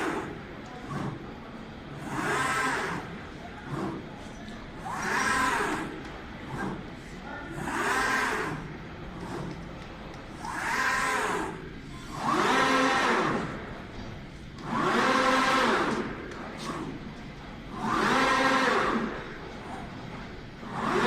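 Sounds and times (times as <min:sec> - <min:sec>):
machine motor whine: 0:00.0 - 0:21.0.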